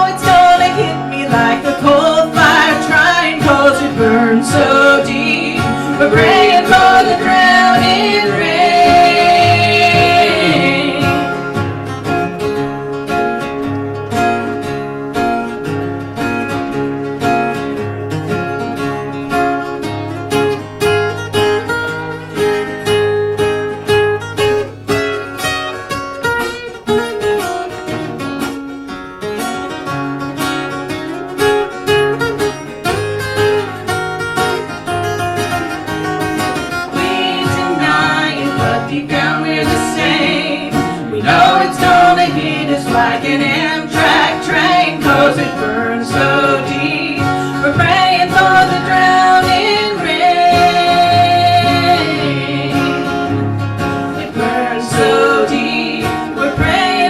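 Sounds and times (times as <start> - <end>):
strummed acoustic guitar: 0.0 - 57.0.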